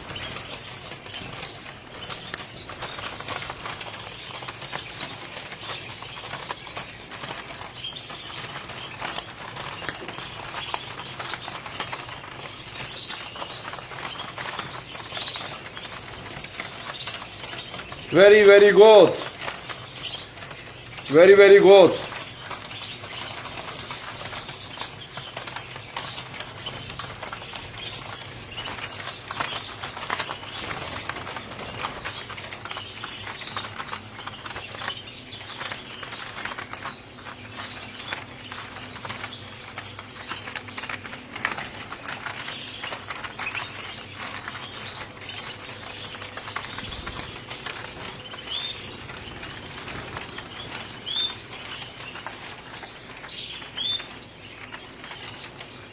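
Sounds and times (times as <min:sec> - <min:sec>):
canaries fluttering wings: 0:00.0 - 0:55.9.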